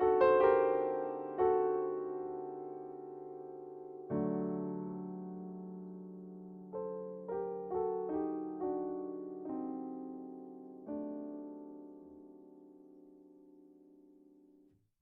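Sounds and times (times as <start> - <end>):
slow solo piano melody: 0.0 - 14.6.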